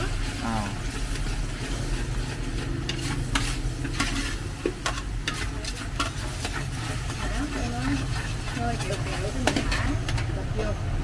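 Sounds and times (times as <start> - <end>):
metal ladle scraping wok: 0.0 - 11.0
sauce sizzling: 0.0 - 11.0.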